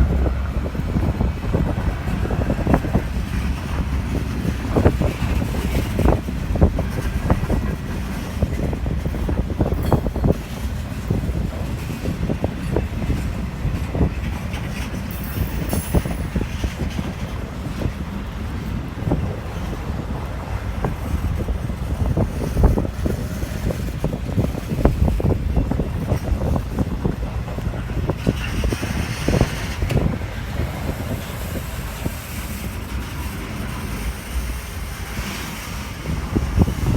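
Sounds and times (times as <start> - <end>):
freight train rumbling past: 0.0 - 36.9
train cars knocking and clanking: 0.0 - 36.9
wind buffeting microphone: 0.0 - 36.9.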